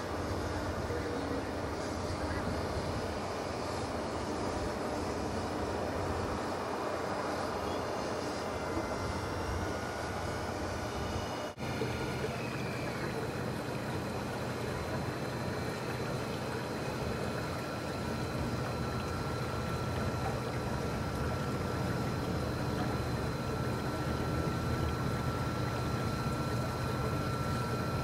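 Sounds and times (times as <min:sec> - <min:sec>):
model boat motor whine: 0:00.0 - 0:28.0.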